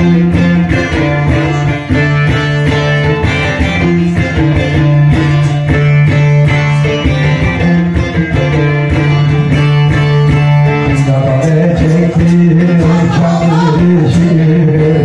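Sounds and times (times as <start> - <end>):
long-necked lute strummed and plucked: 0.0 - 15.0.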